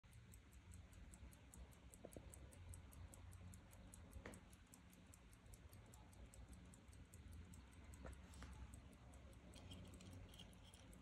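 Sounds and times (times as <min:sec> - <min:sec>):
pocket watch ticking: 0:00.0 - 0:11.0.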